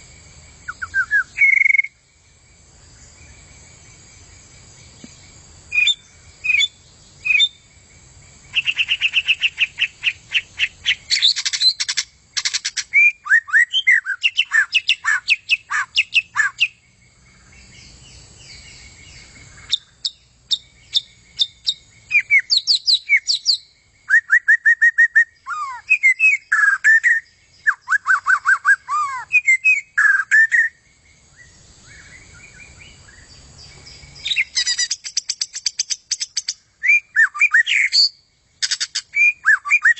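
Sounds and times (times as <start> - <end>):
songbird singing varied trills: 0.0 - 39.9.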